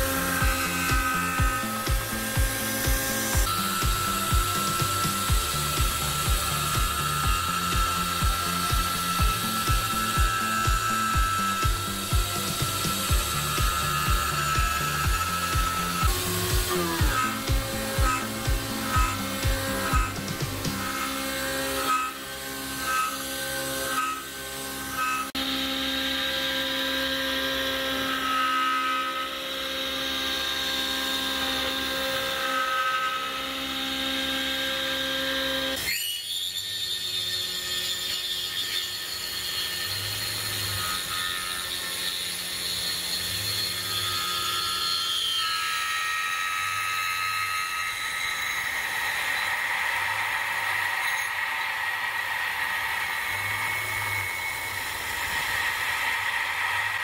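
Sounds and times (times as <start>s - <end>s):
milling machine cutting metal squealing: 0.0s - 57.0s.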